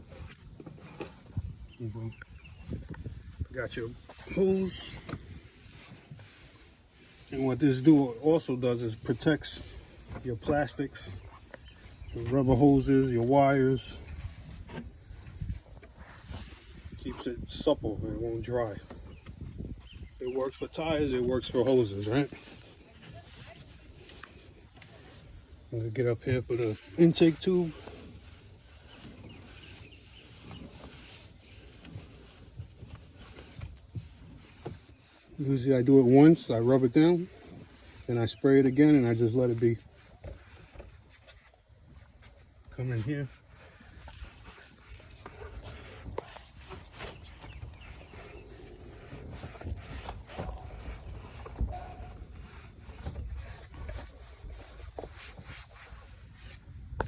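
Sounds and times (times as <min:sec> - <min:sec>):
rag rubbing on plastic tube: 0:03.7 - 0:17.7, 0:20.8 - 0:57.0.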